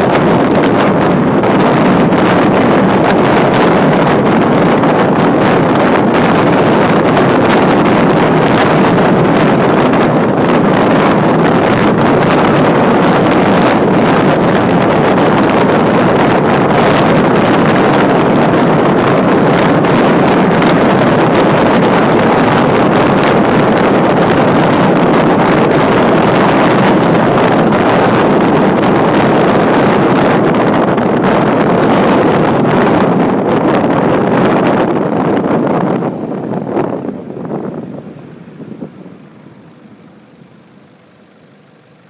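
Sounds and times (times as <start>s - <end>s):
wind buffeting microphone: 0.0s - 41.1s.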